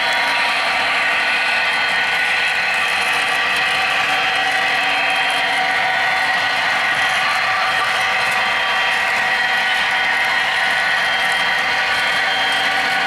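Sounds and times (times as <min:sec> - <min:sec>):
model trains whirring hum: 0:00.0 - 0:13.0.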